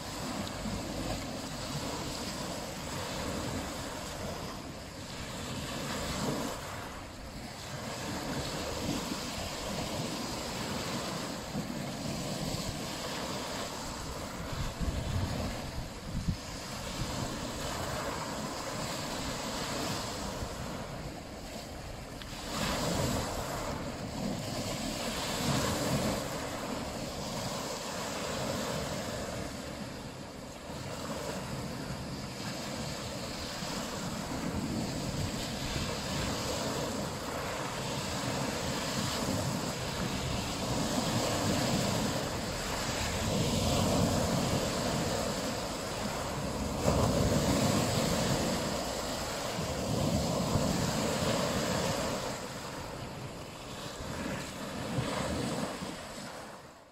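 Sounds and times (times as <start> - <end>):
wind buffeting microphone: 0.0 - 56.5
waves breaking on pebble shore: 0.0 - 56.8.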